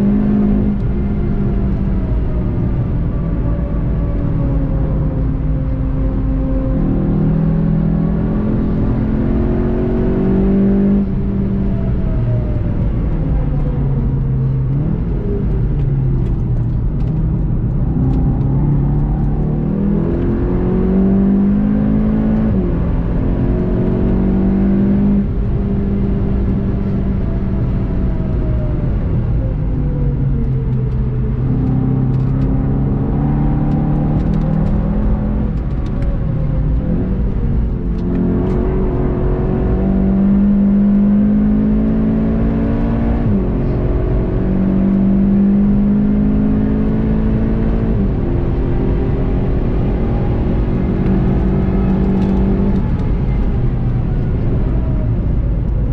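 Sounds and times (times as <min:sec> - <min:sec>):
car engine pulling hard: 0:00.0 - 0:55.9.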